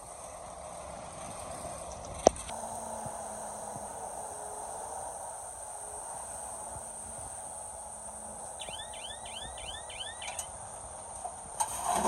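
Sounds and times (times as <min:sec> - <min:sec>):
heavy machinery rumbling: 0:00.1 - 0:12.0.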